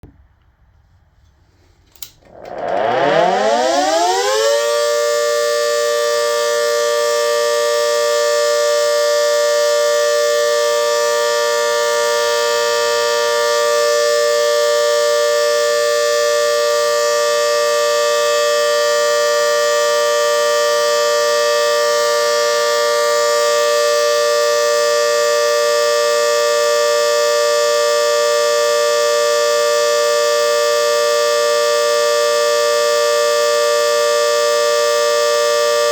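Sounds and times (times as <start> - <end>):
civil defence siren wailing: 2.2 - 35.9.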